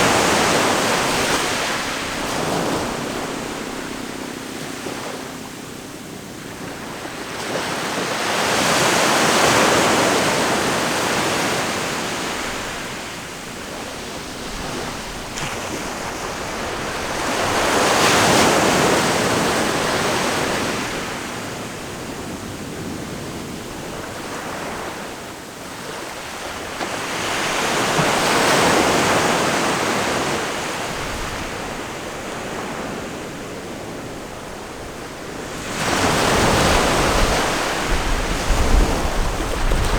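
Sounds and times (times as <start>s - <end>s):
ocean waves breaking: 0.0s - 19.4s, 26.4s - 39.9s
steady sea noise: 0.0s - 39.9s.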